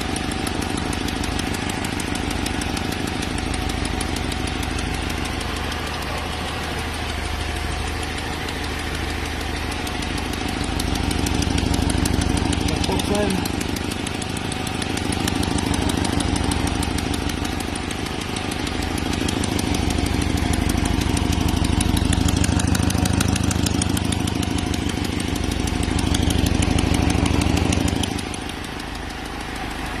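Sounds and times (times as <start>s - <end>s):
car engine running: 0.0s - 30.0s
fast even engine ticking: 0.0s - 30.0s.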